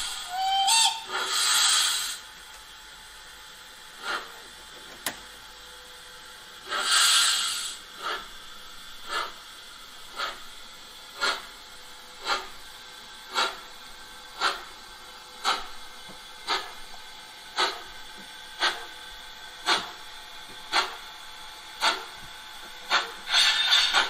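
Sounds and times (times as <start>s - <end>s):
simulated steam exhaust chuffs: 0.0s - 4.8s, 5.4s - 24.0s.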